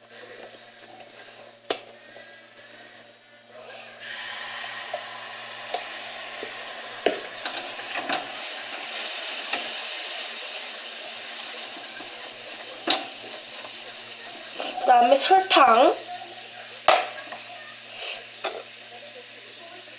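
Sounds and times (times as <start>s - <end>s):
syrup sizzling in a frying pan: 0.0s - 19.9s.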